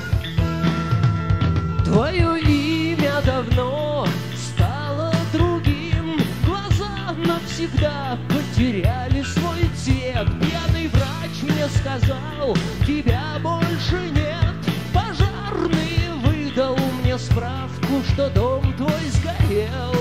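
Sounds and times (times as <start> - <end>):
rock band playing: 0.0 - 20.0
man singing: 1.8 - 20.0.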